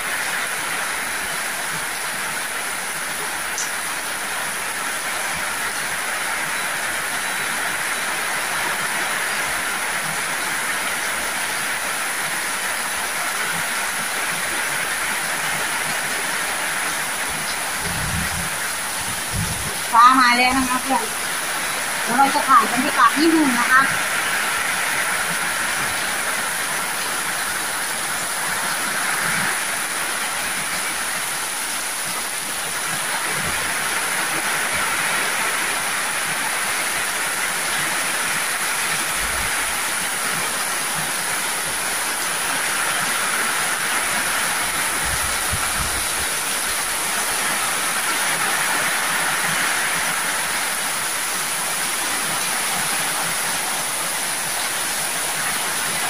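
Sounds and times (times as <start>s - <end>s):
heavy rain on metal roofs: 0.0s - 56.0s.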